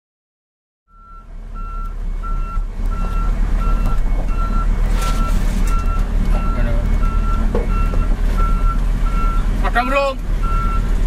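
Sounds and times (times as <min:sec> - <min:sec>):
diesel engine running: 0:00.9 - 0:11.0
reversing alarm beeping: 0:00.9 - 0:11.0.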